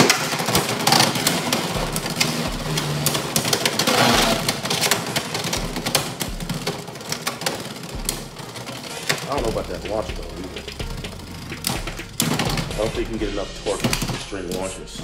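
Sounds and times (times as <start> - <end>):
tops clacking together: 0.0 - 14.7
spinning tops whirring: 0.0 - 14.8.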